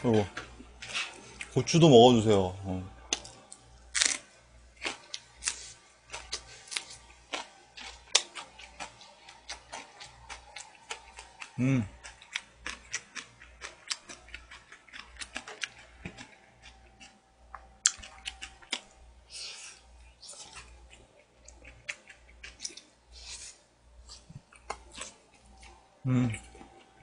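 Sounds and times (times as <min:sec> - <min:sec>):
chewing and mouth noises: 0:04.8 - 0:27.0.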